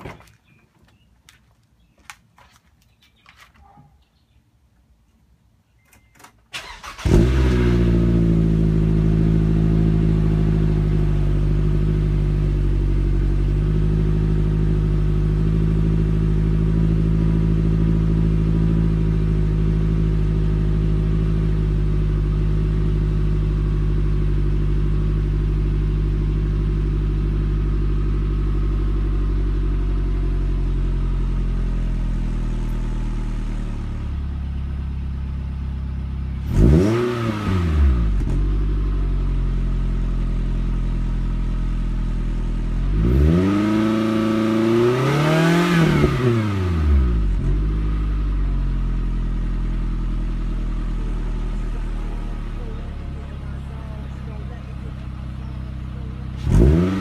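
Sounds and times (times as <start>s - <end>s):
car engine idling: 6.6s - 44.8s, 46.0s - 57.0s.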